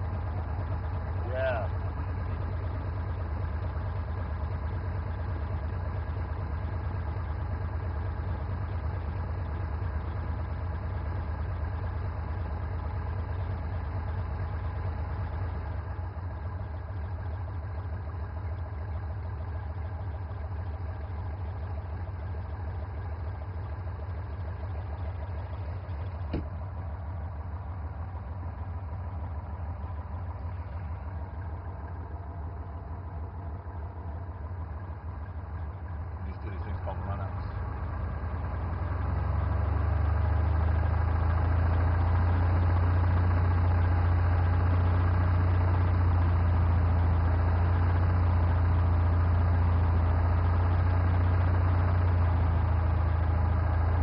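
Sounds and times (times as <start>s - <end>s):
propeller engine drone: 0.0s - 54.0s.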